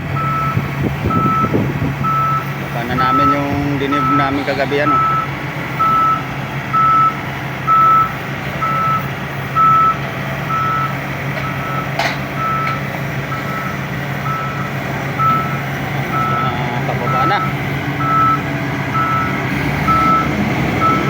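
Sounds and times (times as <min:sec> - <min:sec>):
diesel engine running: 0:00.0 - 0:21.0
backup alarm beeping: 0:00.1 - 0:21.0.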